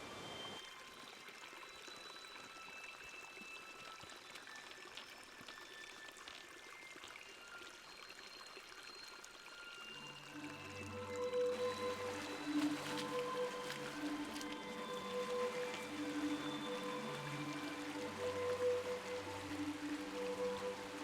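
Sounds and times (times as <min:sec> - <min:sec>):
mountain stream trickling: 0:00.0 - 0:21.0
music: 0:00.0 - 0:21.0.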